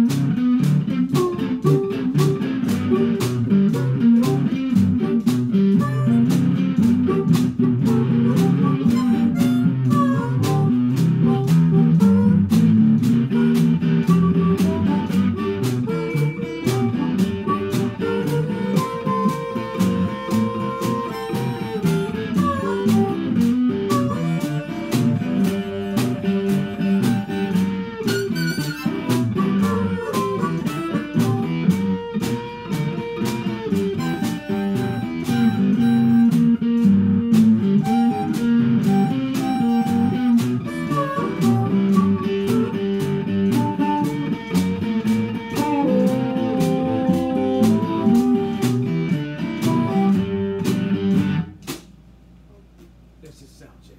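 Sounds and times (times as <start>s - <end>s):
harmonica: 0.0s - 51.4s
electric guitar: 0.0s - 51.8s
drum strikes: 0.0s - 52.0s.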